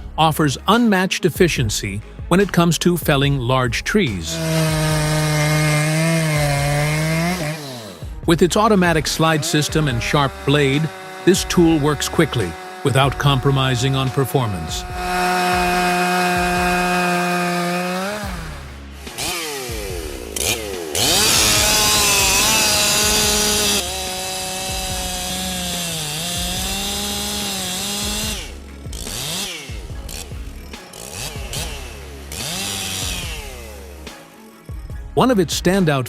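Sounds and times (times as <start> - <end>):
chainsaw cutting wood: 4.1 - 34.8.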